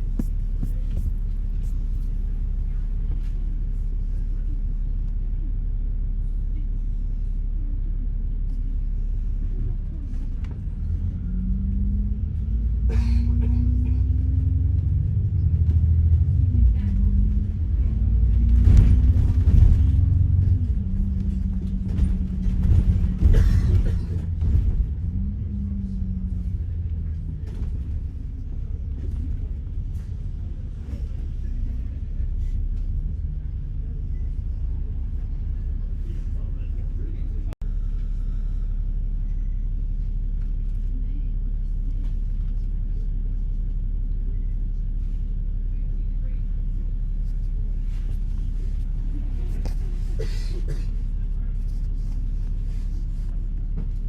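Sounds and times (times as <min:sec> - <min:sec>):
vehicle engine rumble: 0:00.0 - 0:54.0.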